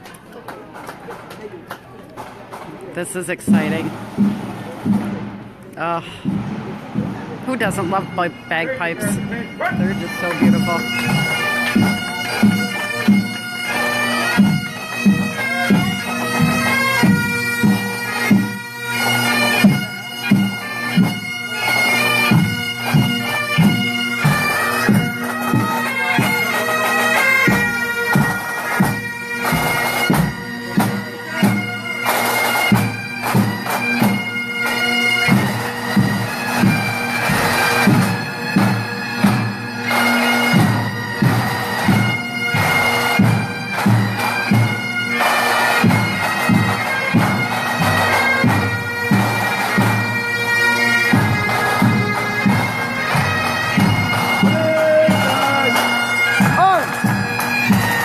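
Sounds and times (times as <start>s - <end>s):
drums beating: 2.2s - 34.6s, 35.3s - 50.1s, 50.9s - 58.0s
bagpipes playing a march: 2.2s - 58.0s.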